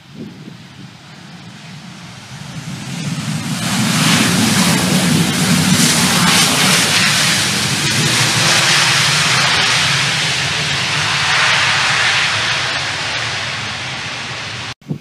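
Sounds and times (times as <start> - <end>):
jet engines roaring at takeoff: 0.0 - 14.8.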